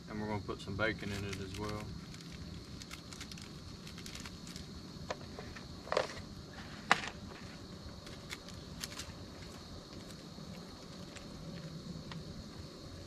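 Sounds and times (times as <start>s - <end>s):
camp stove burner hissing: 0.0s - 13.0s.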